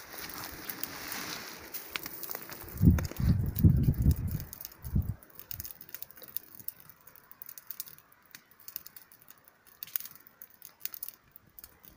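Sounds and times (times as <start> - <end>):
campfire crackling: 0.0 - 11.9.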